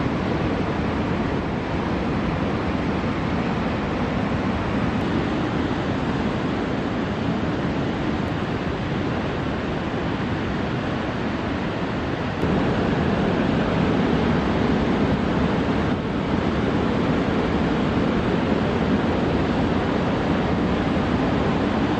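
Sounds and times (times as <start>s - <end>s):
ocean waves breaking: 0.0s - 21.9s
wind on microphone: 0.0s - 21.9s.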